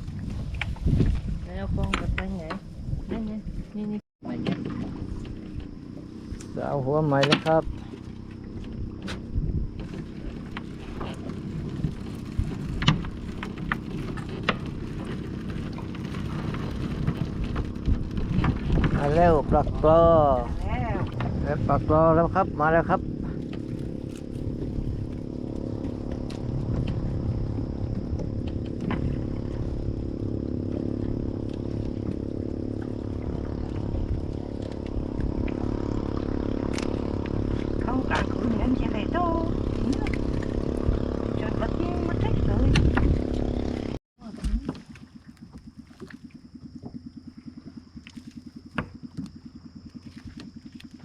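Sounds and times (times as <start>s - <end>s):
boat engine running: 0.0s - 51.0s
patter of water: 0.0s - 51.0s.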